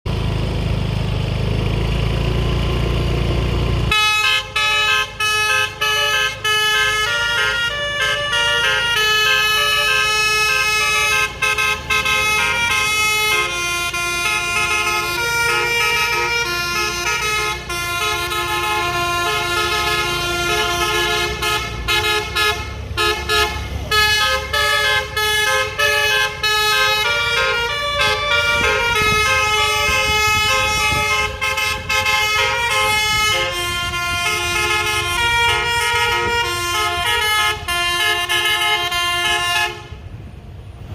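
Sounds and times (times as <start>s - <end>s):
multi-tone bus air horn melody: 3.9s - 40.2s.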